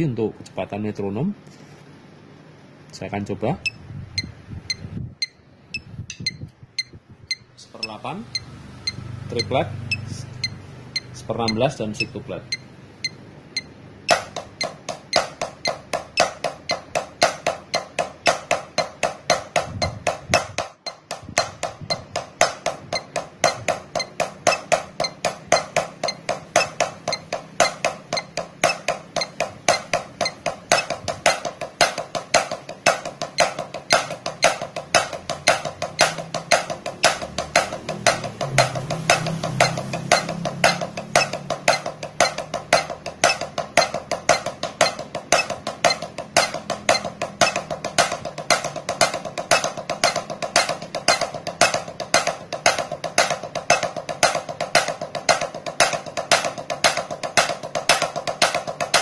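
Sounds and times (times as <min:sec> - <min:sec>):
drumsticks on practice pad: 0:03.6 - 0:59.0.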